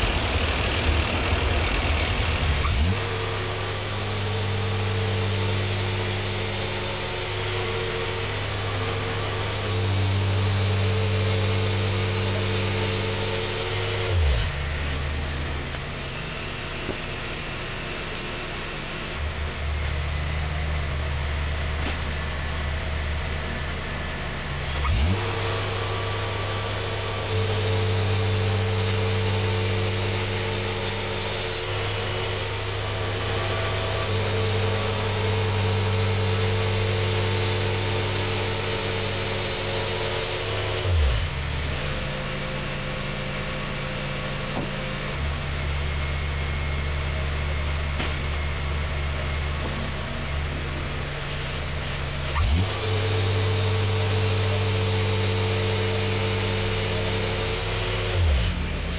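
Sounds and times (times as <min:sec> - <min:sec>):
sawmill engine running: 0:00.0 - 0:58.9.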